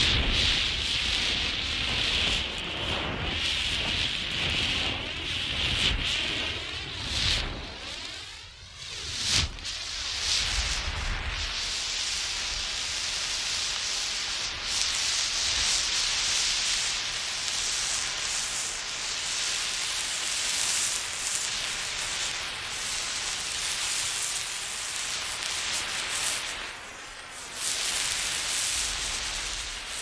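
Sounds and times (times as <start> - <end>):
road flare hissing: 0.0 - 30.0.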